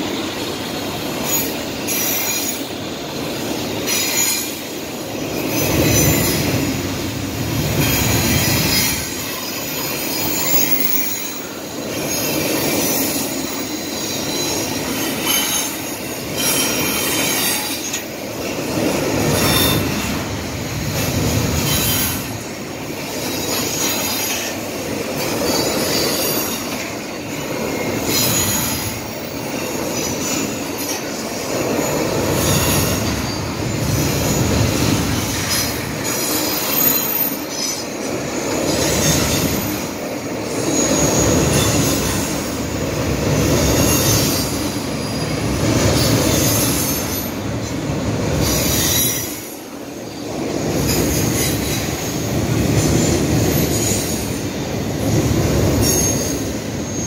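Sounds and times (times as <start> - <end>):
train wheels rumbling on bridge: 0.0 - 57.0.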